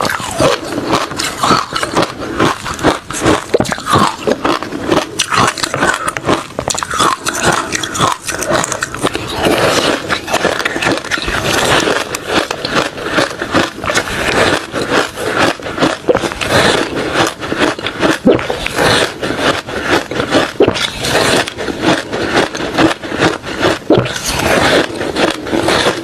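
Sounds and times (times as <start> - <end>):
ice crunching and grinding: 0.0 - 26.0.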